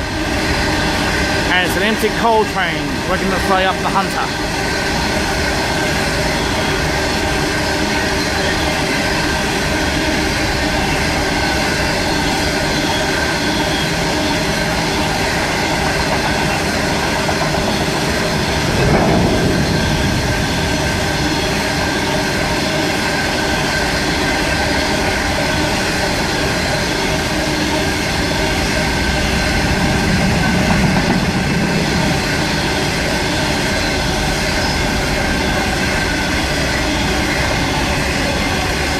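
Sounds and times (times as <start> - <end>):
train wagons rumbling on rails: 0.0 - 38.9.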